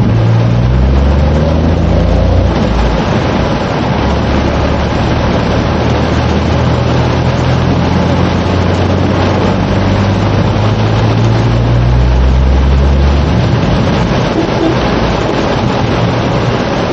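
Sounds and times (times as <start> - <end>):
low engine hum: 0.0 - 16.9
rain hissing on car roof: 0.0 - 16.9
water under tyres: 0.0 - 16.9.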